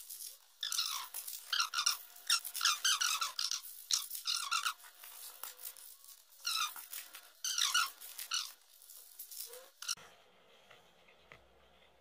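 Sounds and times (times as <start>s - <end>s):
rubber glove squeaking: 0.0s - 10.0s.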